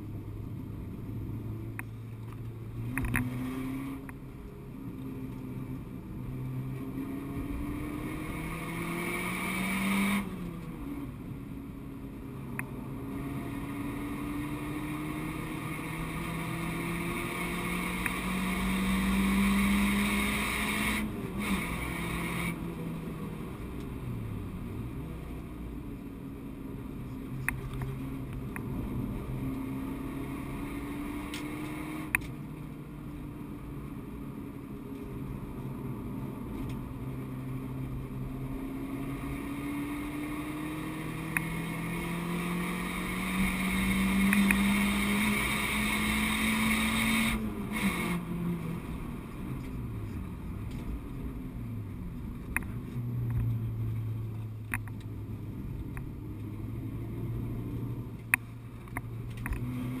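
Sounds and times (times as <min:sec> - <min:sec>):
car engine revving: 0:00.0 - 1:00.0.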